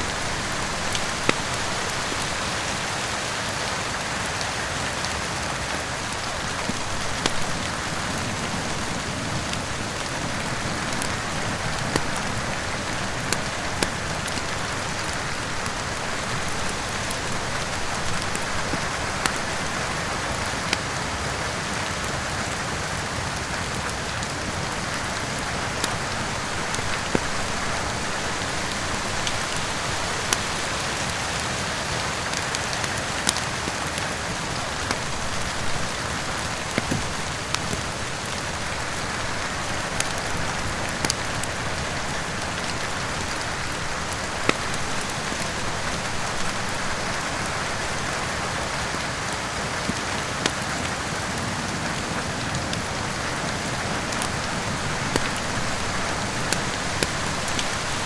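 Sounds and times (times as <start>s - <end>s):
steady rain falling: 0.0s - 58.0s
wood fire popping and crackling: 0.0s - 58.0s.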